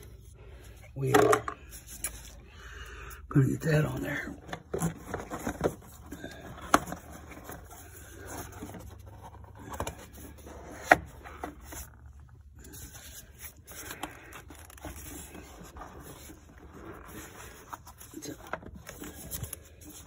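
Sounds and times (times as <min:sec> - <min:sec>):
hands scraping and rubbing parts: 0:00.0 - 0:02.5, 0:03.4 - 0:20.0.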